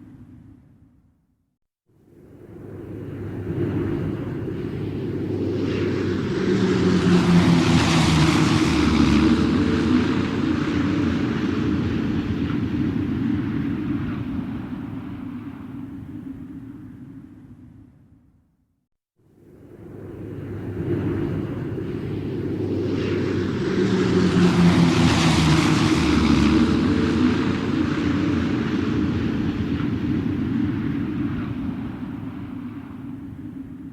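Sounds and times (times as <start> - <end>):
rushing sound of passing aircraft: 2.2 - 16.6, 19.4 - 33.9
airplane engine droning: 2.2 - 18.0, 19.5 - 33.9.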